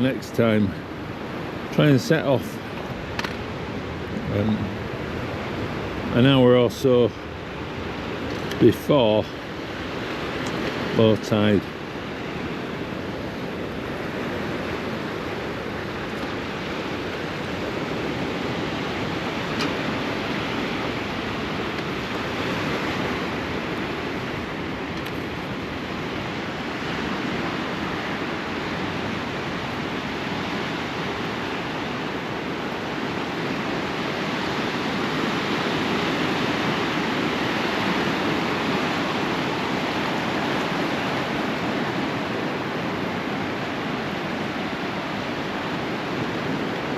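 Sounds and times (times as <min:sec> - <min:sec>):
sea surf washing ashore: 0:00.0 - 0:46.9.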